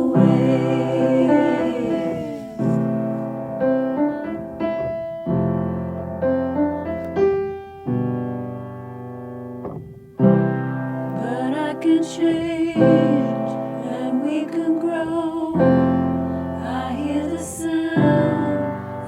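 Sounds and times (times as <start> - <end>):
piano ballad chords: 0.0 - 19.0.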